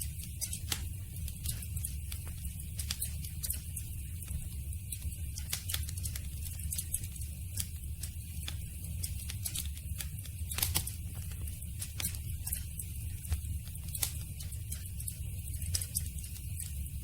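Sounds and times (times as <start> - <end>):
low fire rumble: 0.0 - 17.0
wood crackling and popping: 0.0 - 17.0.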